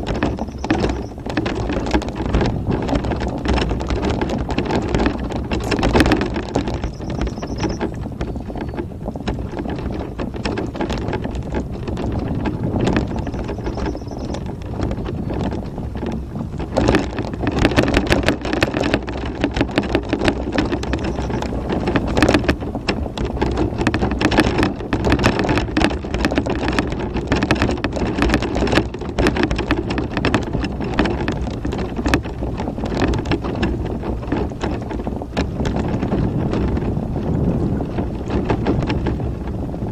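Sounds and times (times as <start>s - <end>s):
steady rumble: 0.0s - 39.9s.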